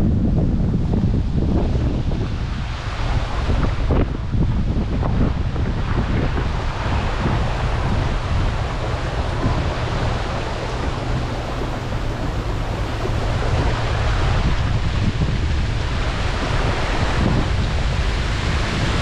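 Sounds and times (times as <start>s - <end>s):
heavy rain: 0.0s - 19.0s
wind buffeting microphone: 0.0s - 19.0s.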